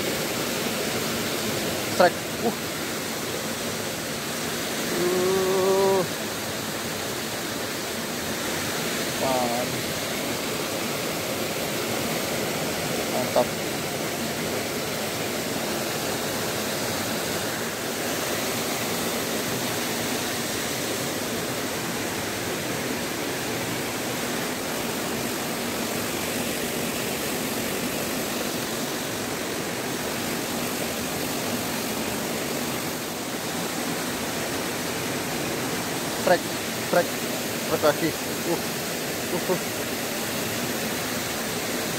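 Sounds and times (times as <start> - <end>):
stream rushing over rocks: 0.0 - 41.9.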